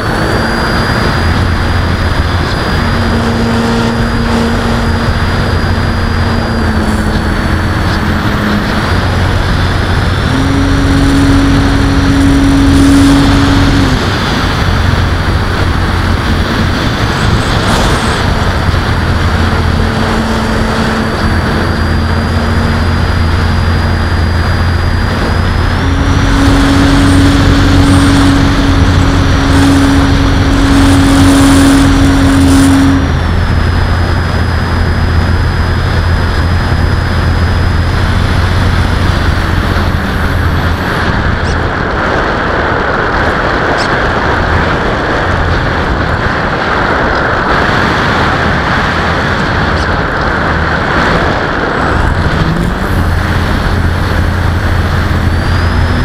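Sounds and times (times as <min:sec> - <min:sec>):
electric motor propeller whine: 0:00.0 - 0:56.0
wind rush: 0:00.0 - 0:56.0.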